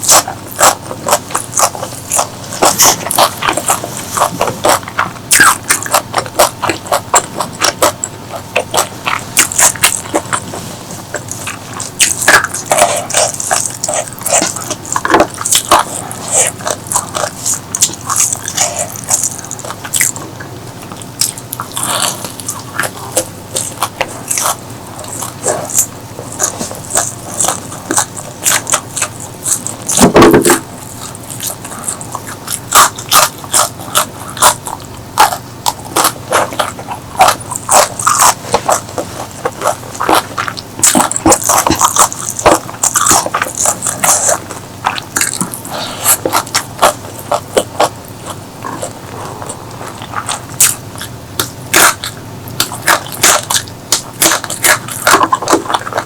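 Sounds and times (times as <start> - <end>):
crisp crunching and chewing: 0.0 - 56.0.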